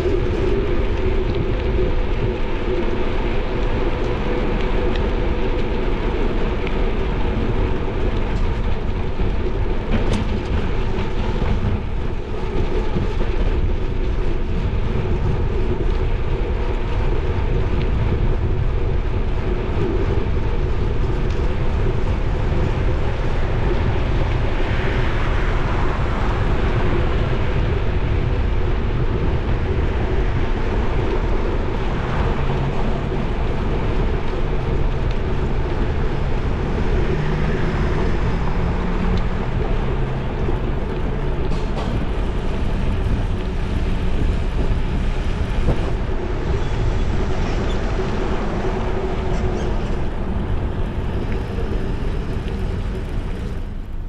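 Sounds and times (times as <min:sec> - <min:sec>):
bicycle tyre rumble: 0:00.0 - 0:54.0
wind noise on microphone: 0:00.0 - 0:54.0.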